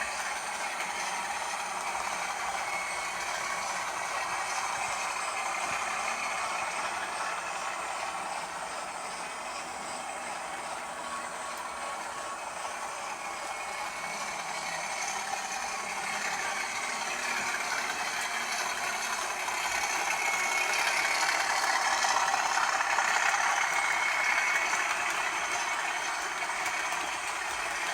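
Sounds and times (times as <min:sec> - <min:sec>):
diesel locomotive engine running: 0:00.0 - 0:27.9.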